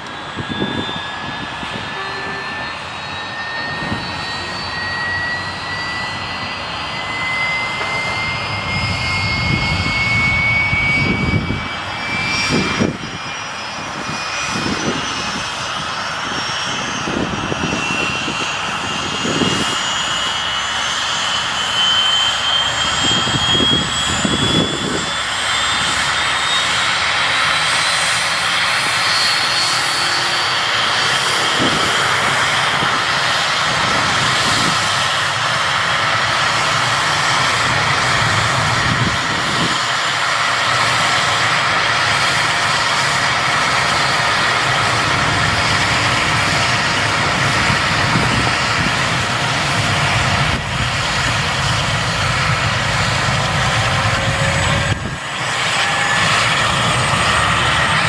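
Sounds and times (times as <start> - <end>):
helicopter turbine whine: 0.0 - 58.0.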